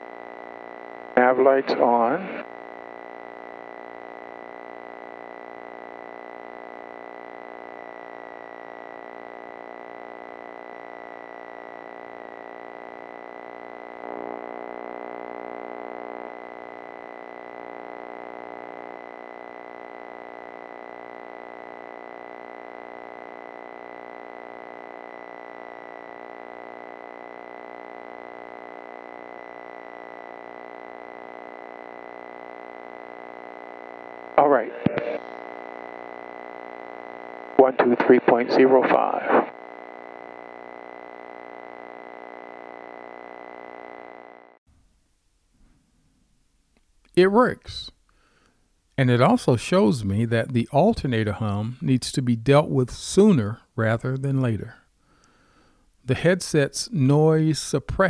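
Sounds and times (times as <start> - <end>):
alternator whine on intercom: 0.0 - 44.6, 47.1 - 58.0.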